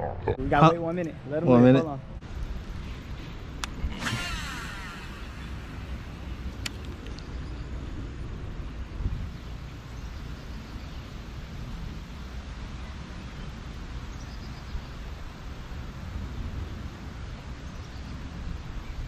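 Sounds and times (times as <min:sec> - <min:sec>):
wind rumbling on microphone: 0:02.0 - 0:19.0.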